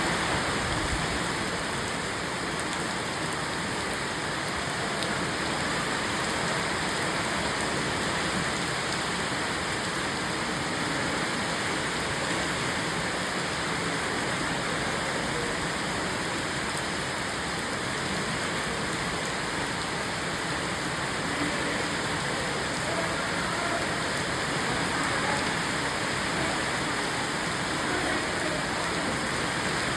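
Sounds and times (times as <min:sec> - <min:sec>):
steady rain pattering: 0:00.0 - 0:29.9.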